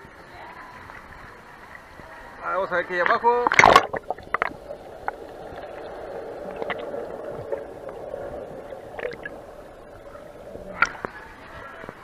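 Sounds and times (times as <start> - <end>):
underwater sea wash: 0.0 - 12.0.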